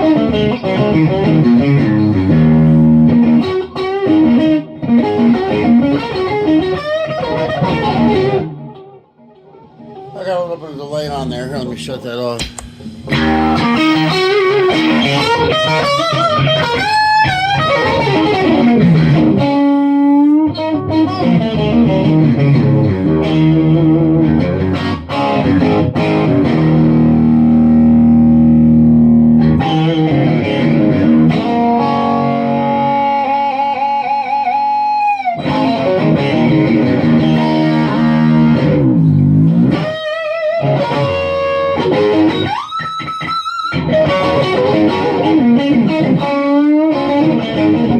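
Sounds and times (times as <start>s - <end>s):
electric guitar lead lines: 0.0s - 47.9s.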